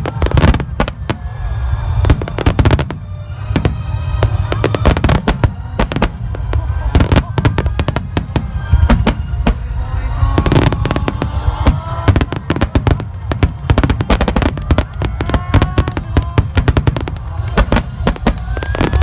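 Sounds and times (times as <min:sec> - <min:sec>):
low rumble: 0:00.0 - 0:19.0
music playing: 0:00.0 - 0:19.0.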